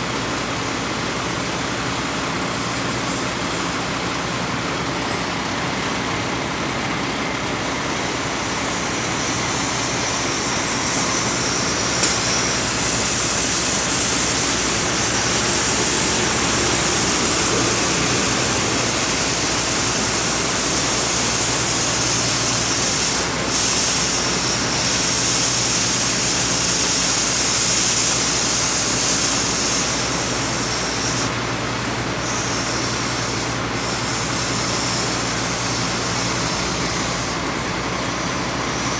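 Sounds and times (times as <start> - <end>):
cutting torch hissing: 0.1 - 38.9.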